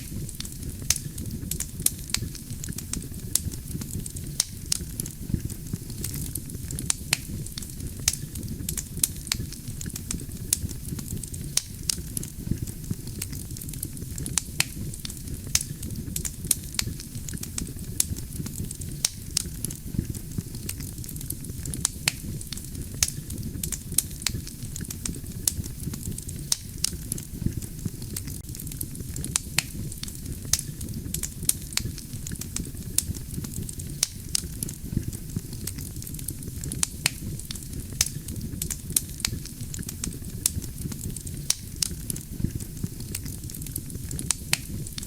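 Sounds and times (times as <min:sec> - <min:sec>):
logs crackling and popping: 0:00.0 - 0:45.0
wood fire rumbling: 0:00.0 - 0:45.0.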